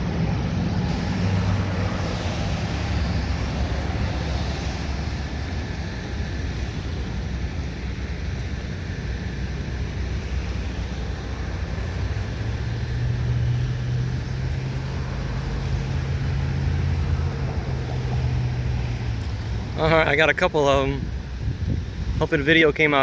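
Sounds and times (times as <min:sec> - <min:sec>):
low engine hum: 0:00.0 - 0:23.0
wind rumbling on microphone: 0:00.0 - 0:23.0.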